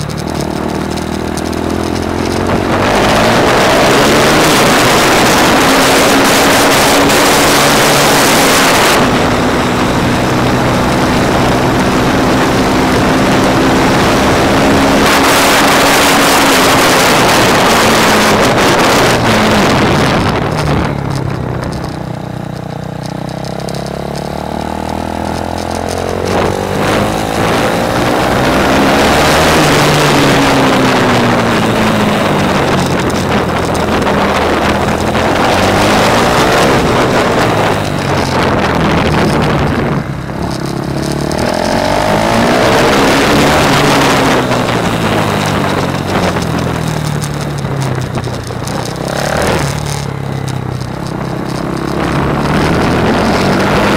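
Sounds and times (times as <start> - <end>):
motorcycle engine accelerating: 0.0 - 53.9
wind buffeting microphone: 0.0 - 53.9.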